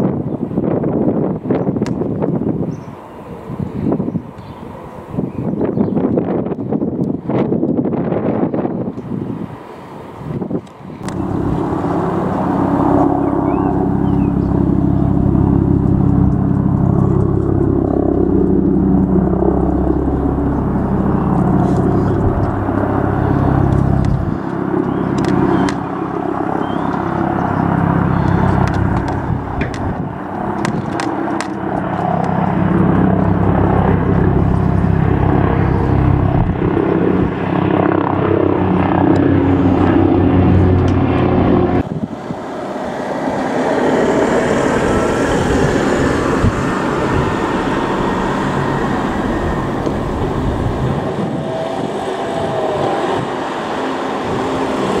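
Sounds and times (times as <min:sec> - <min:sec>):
distant helicopter rushing: 0:00.0 - 0:55.0
helicopter rotor beating overhead: 0:00.0 - 0:55.0.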